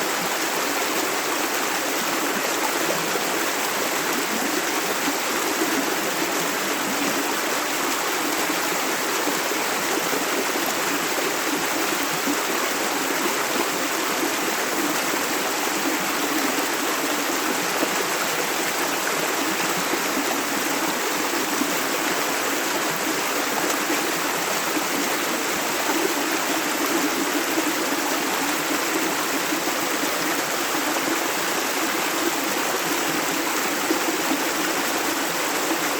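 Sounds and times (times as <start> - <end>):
river water running over rocks: 0.0 - 35.9.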